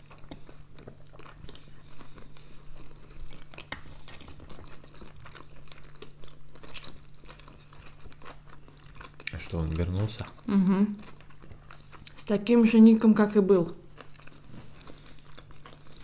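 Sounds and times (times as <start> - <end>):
chewing with mouth clicks: 0.0 - 16.0
food crunching: 0.0 - 16.0.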